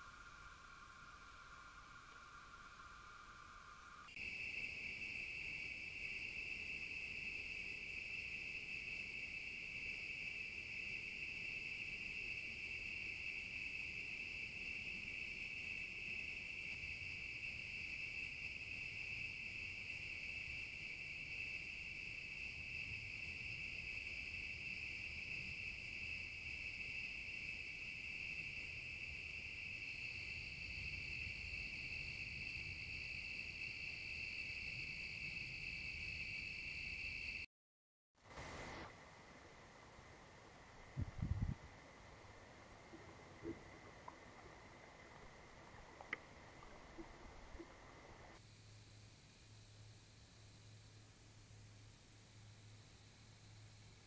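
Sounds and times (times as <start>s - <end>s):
crickets trilling: 0.0s - 37.5s, 42.8s - 54.0s
high insect band: 0.0s - 37.5s, 46.0s - 54.0s.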